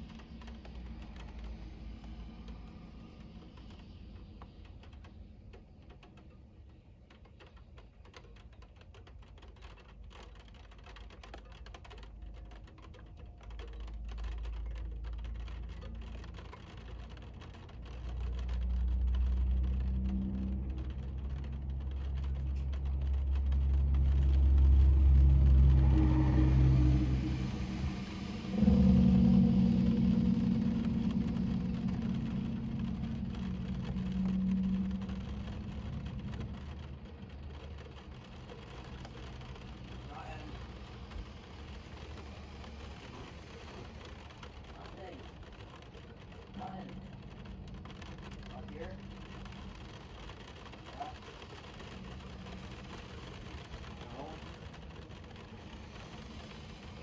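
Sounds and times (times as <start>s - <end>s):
car engine rumbling: 0.0s - 7.5s, 11.8s - 57.0s
faint clicks: 0.0s - 57.0s.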